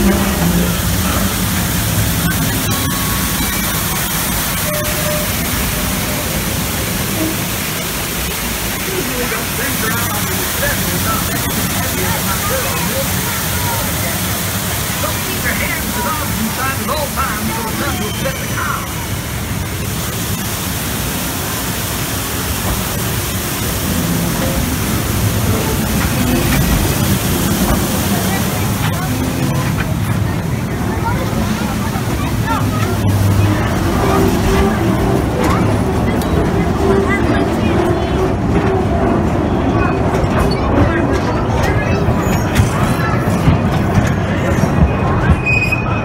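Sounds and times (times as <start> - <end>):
waterfall rushing and splashing: 0.0 - 42.2
low train rumble: 0.0 - 46.0.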